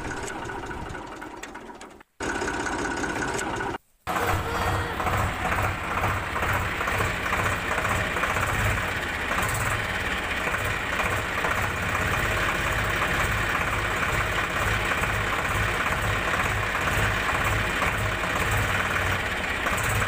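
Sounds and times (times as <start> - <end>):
engine idling with low chugging: 0.0 - 20.0.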